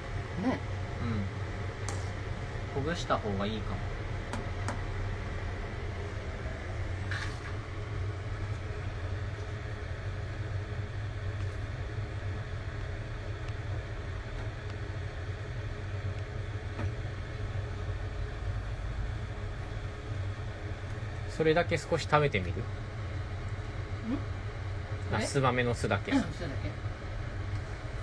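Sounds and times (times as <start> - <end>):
gas burner low rumble: 0.0 - 28.0.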